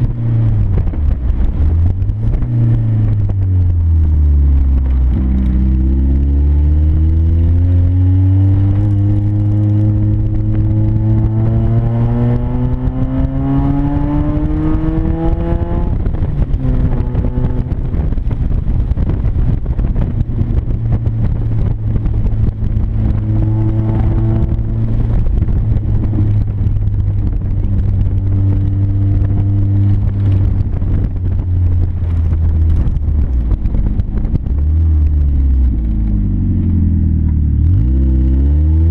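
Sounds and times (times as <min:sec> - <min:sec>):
car engine with loud exhaust: 0:00.0 - 0:38.9.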